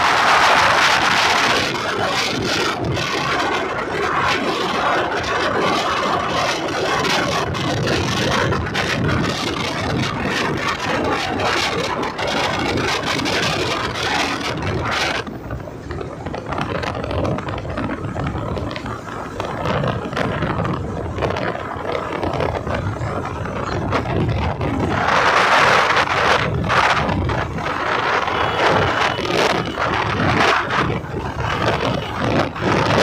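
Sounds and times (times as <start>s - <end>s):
motorcycle engine running: 0.0s - 33.0s
road noise: 0.0s - 33.0s
wind rush: 0.0s - 33.0s.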